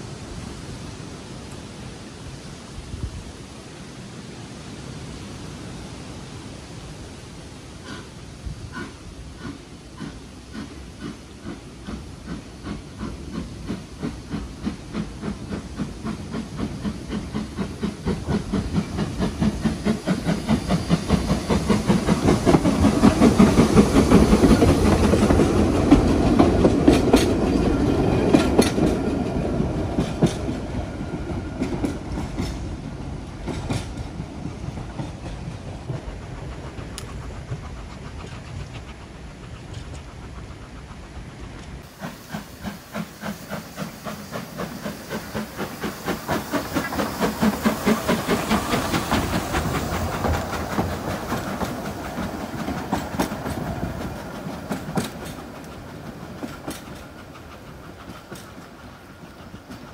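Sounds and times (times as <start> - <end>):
steam train exhaust beats: 4.7 - 59.9
wheels clicking over rail joints: 10.0 - 32.7, 33.4 - 59.9.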